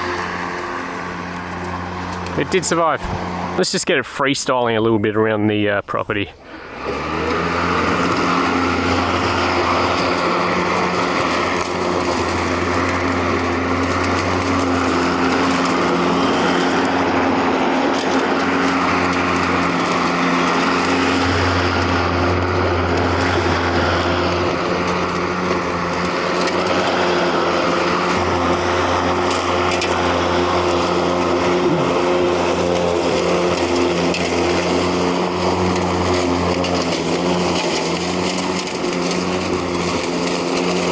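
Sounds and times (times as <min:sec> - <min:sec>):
electric lawn mower humming: 0:00.0 - 0:03.8, 0:06.4 - 0:40.9.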